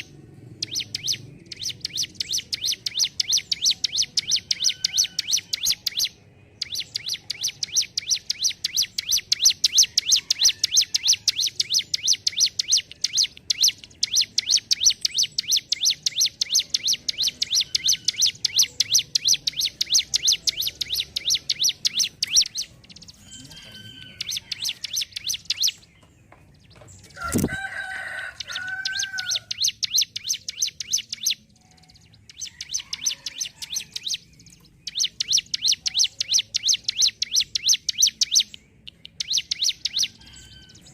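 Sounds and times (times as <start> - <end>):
bird singing rattling trill: 0.0 - 40.9.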